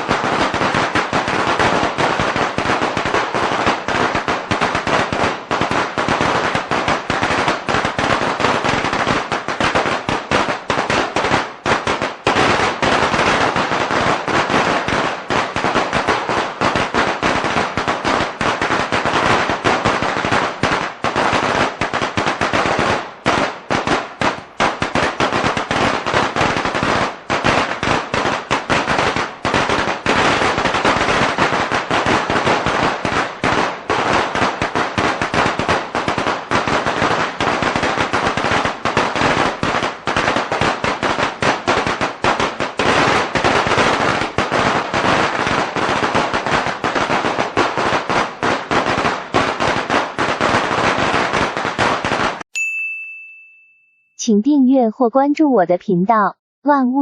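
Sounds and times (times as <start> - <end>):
firecrackers crackling: 0.0 - 52.5.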